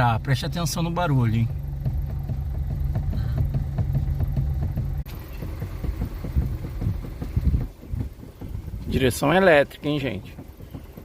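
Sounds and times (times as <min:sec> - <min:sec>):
car engine idling: 0:00.0 - 0:11.0
steering knocks: 0:00.0 - 0:11.0.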